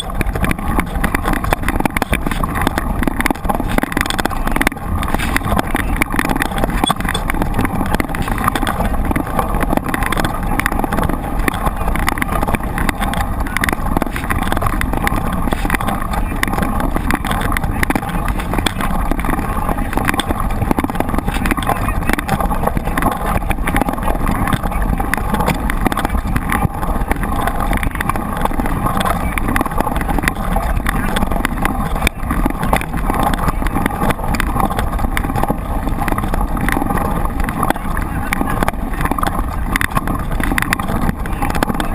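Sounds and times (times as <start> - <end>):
small rattles and clicks: 0.0 - 41.9
tyres rushing over rough ground: 0.0 - 41.9
wind noise: 0.0 - 41.9.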